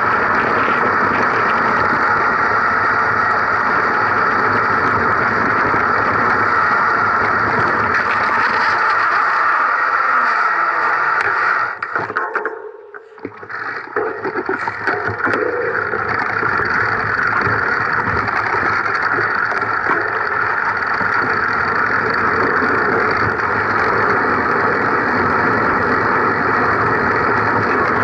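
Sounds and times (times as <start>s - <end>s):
vehicle riding on dirt track: 0.0s - 28.0s.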